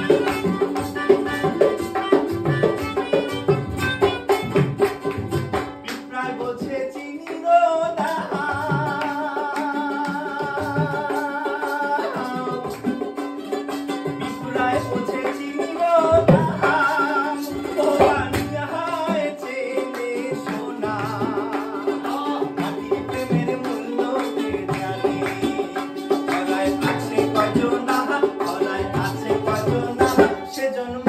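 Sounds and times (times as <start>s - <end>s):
melodica: 0.0s - 6.0s, 10.6s - 31.0s.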